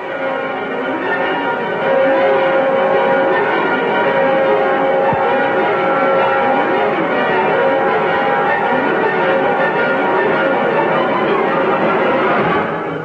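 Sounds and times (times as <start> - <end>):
bells pealing: 0.0 - 13.0.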